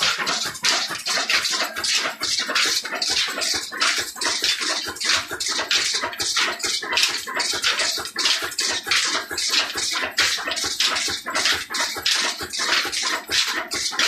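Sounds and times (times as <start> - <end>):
rasping hissing pulses: 0.0 - 14.0.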